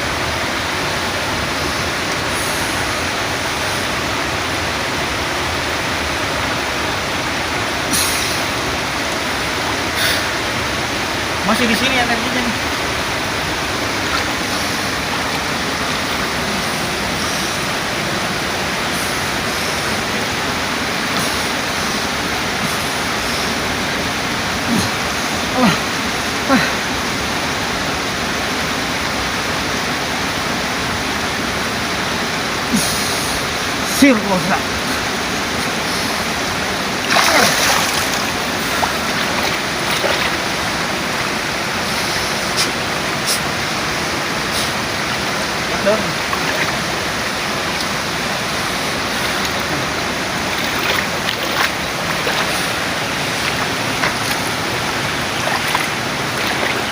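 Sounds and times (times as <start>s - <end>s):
water rushing: 0.0s - 56.9s.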